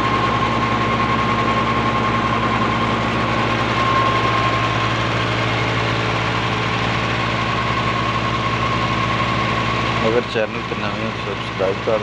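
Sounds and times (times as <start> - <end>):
high whine: 0.0 - 12.0
tractor diesel engine running: 0.0 - 12.0.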